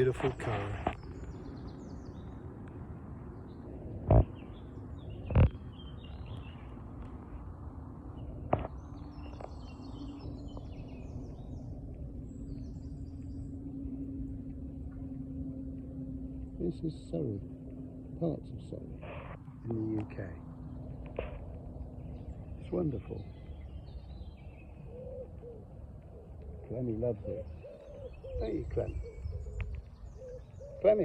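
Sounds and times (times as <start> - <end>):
small birds chirping: 0.0 - 31.0
steady low hum: 0.0 - 31.0
steady low rumble: 0.0 - 31.0.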